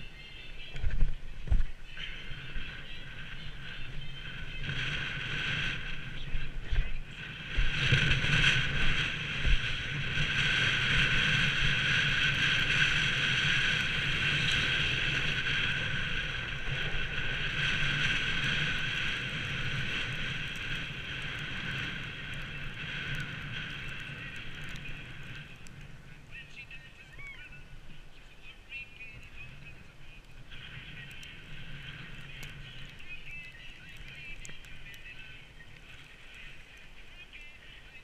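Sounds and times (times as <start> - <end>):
bike riding noise on snow: 0.0 - 38.0
wind on microphone: 0.0 - 38.0.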